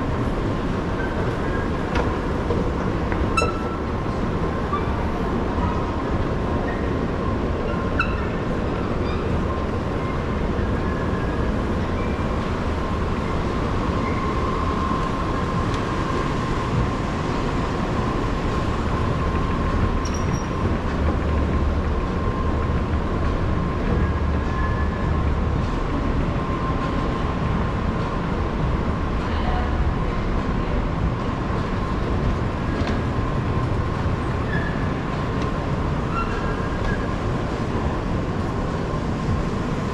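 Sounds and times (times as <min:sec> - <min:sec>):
escalator mechanical rumble: 0:00.0 - 0:39.9.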